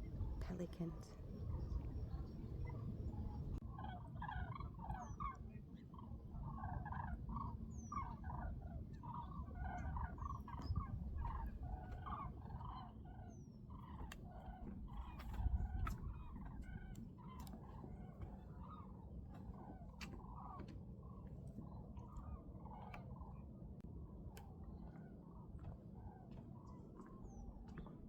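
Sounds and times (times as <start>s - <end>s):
waterbirds calling: 0.0s - 23.8s.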